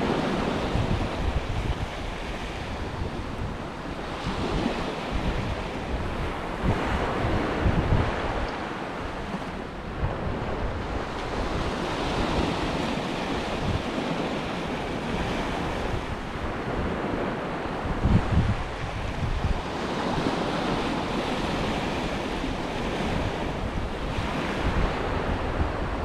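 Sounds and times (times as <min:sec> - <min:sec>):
sea waves breaking on shore: 0:00.0 - 0:26.0
wind buffeting microphone: 0:00.0 - 0:26.0.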